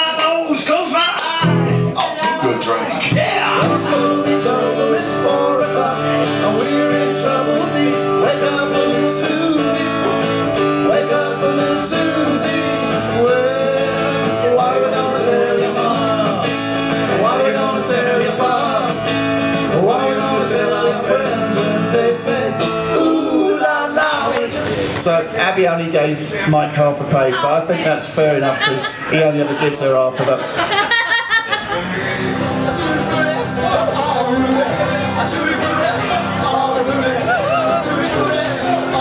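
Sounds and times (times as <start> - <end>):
man singing into a microphone: 0.0 - 30.0, 31.7 - 39.0
acoustic guitar: 0.0 - 39.0.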